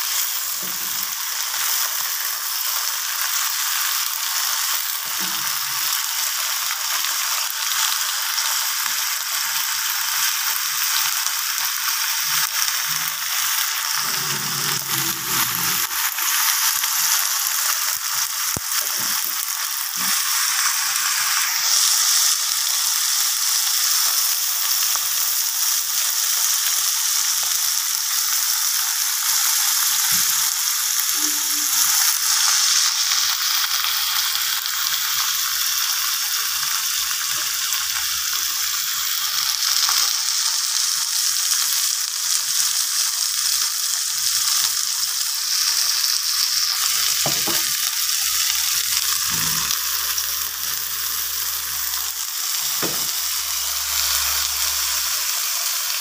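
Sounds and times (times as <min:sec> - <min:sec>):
leaves sizzling in hot oil: 0:00.0 - 0:56.0.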